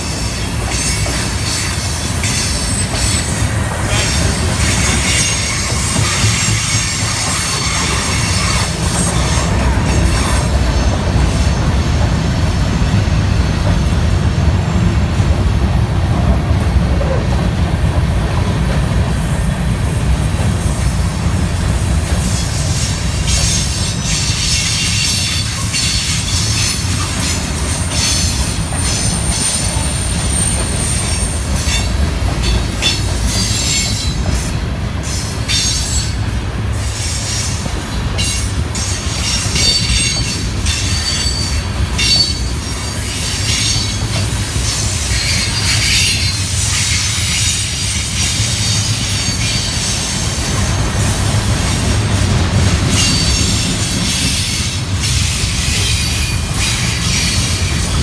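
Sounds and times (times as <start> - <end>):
high wheel squeal: 0.0 - 15.6, 22.3 - 50.7, 52.7 - 58.0
freight train rumbling past: 0.0 - 58.0.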